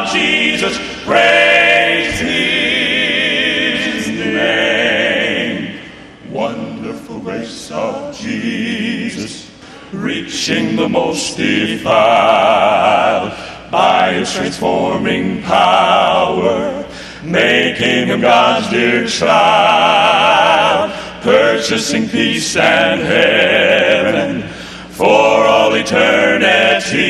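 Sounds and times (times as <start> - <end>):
male vocal trio singing in harmony: 0.0 - 27.0.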